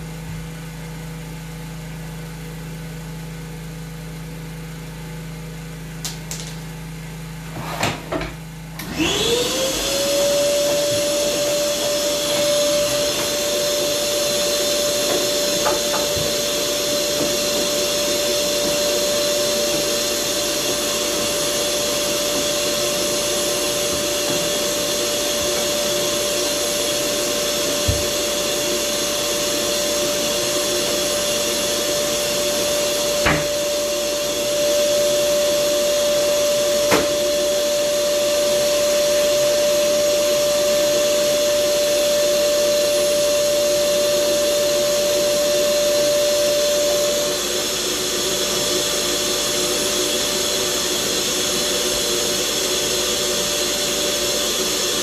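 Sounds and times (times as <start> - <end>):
vacuum cleaner running: 0.0 - 55.0
vacuum hose whistle: 8.8 - 55.0.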